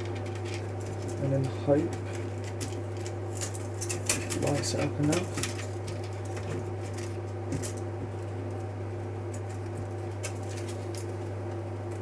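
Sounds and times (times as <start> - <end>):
faint clicks of small parts: 0.0 - 7.9, 9.3 - 12.0
steady low hum: 0.0 - 12.0.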